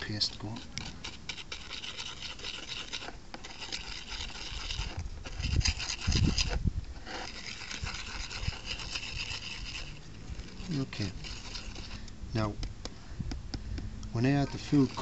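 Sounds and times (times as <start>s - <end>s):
spoon scraping paste in container: 0.0s - 12.2s, 14.2s - 15.0s.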